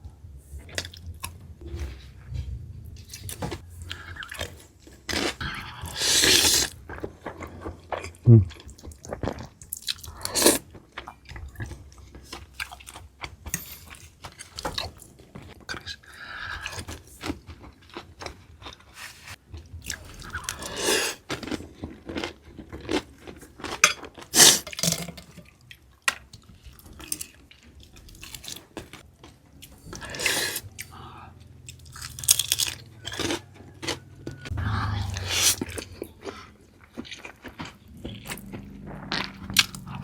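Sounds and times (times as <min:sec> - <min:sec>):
person chewing and crunching food: 0:00.5 - 0:02.3, 0:02.9 - 0:40.0.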